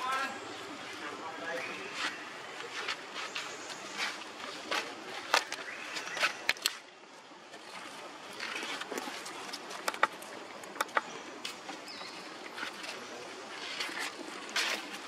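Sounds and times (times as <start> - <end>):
rustles: 0.0 - 6.9, 7.5 - 15.0.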